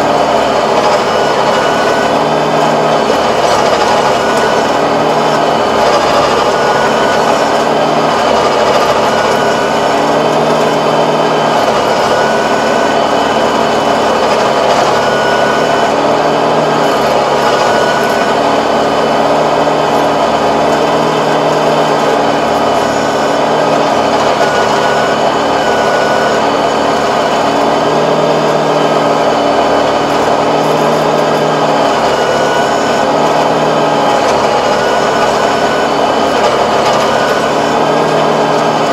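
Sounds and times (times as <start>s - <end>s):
rotary tiller churning soil: 0.0s - 38.9s
tractor engine under load: 0.0s - 38.9s.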